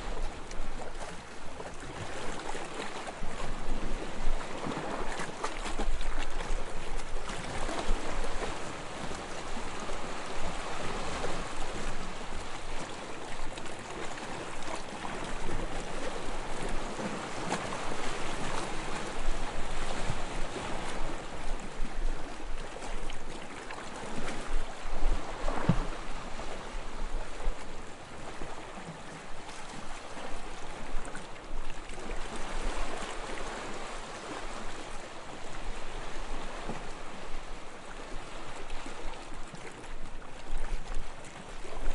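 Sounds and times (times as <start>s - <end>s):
small waves lapping on shore: 0.0s - 41.9s.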